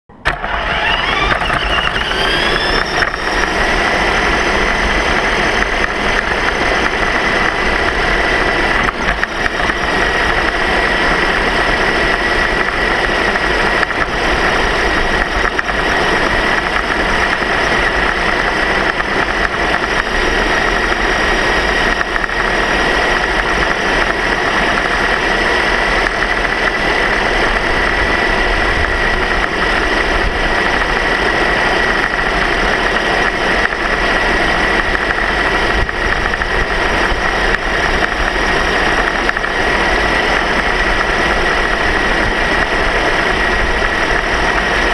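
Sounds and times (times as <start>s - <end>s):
constant low rumble: 0.1s - 44.9s
motor whine: 0.1s - 44.9s.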